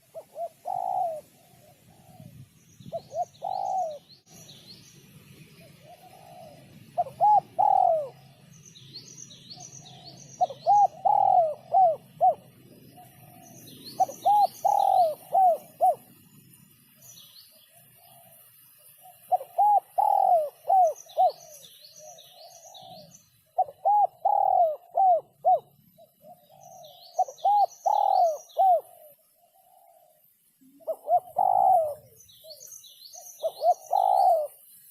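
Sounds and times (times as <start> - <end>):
dove cooing: 0.0 - 4.1, 5.6 - 8.5, 9.6 - 16.2, 17.9 - 34.7
small bird chirping: 0.0 - 34.9.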